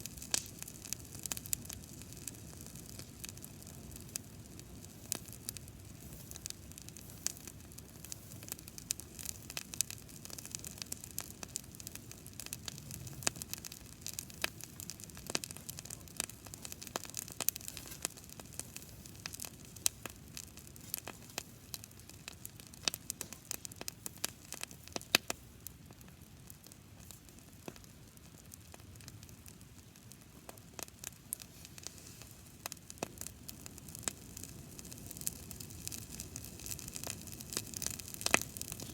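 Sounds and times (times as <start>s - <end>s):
fire crackles and pops: 0.0s - 38.9s
grass fire hissing: 0.0s - 38.9s.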